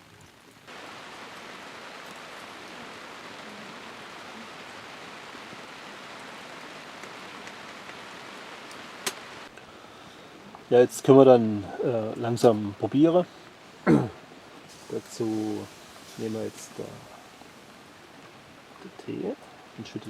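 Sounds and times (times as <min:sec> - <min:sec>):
teapot simmering hiss: 0:00.0 - 0:20.0.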